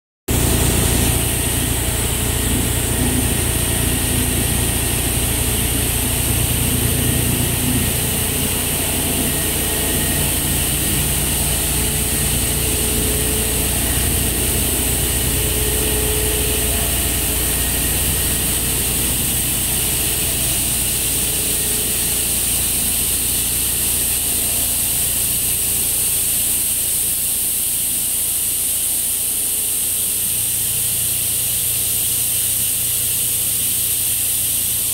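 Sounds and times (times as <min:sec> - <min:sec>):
low machine hum: 0:00.3 - 0:34.9.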